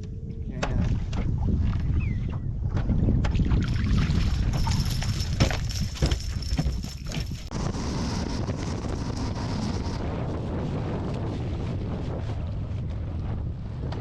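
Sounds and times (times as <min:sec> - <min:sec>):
boat engine low rumble: 0:00.0 - 0:14.0
wind buffeting microphone: 0:00.0 - 0:14.0.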